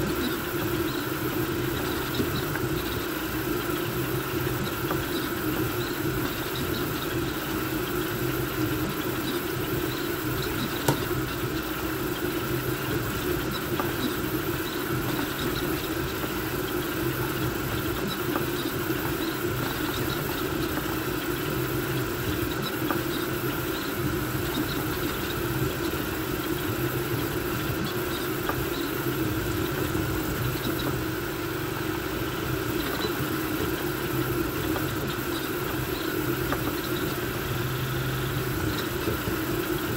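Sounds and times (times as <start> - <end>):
cooling fans whirring: 0.0 - 39.9
stepper motors humming: 0.0 - 39.9.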